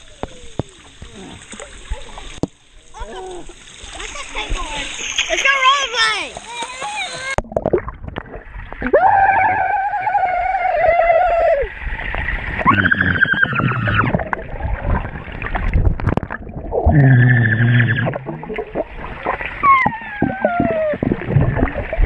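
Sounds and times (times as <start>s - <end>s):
muffled voices underwater: 0.0s - 22.0s.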